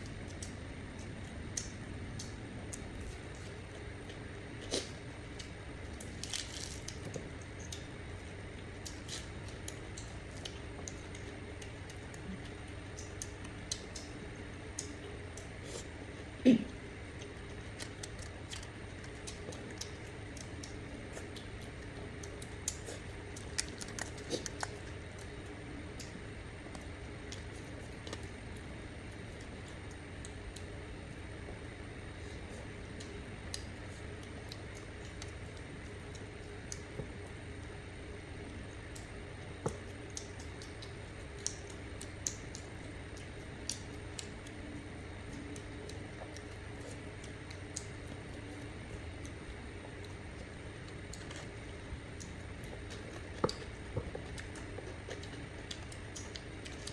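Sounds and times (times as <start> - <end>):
low background hum: 0.0 - 56.9
soft squishy food noises: 0.0 - 56.9.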